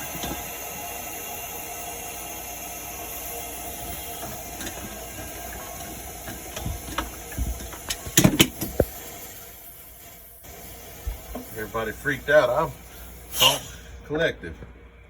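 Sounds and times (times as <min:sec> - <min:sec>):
steady hiss: 0:00.0 - 0:14.2.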